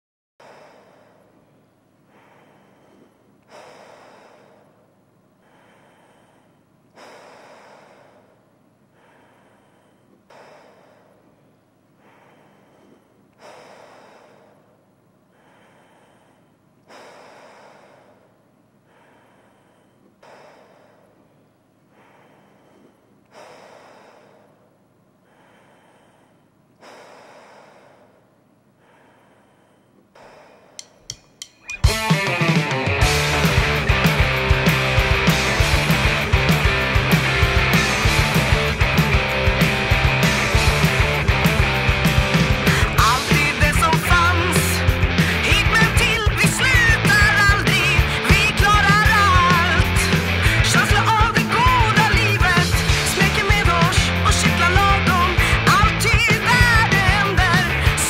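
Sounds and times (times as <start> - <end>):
breathing through a respirator: 0.4 - 31.0, 33.0 - 58.0.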